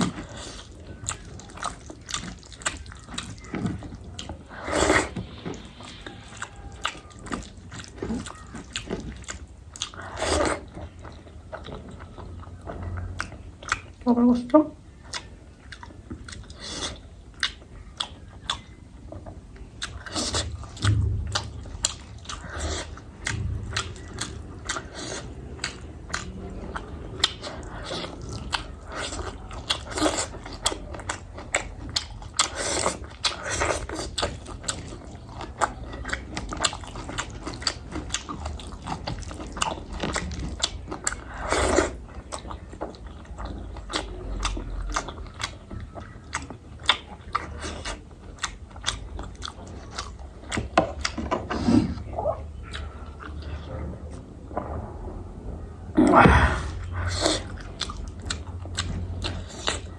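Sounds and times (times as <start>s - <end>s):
person chewing food: 0.0s - 54.9s, 56.2s - 59.9s.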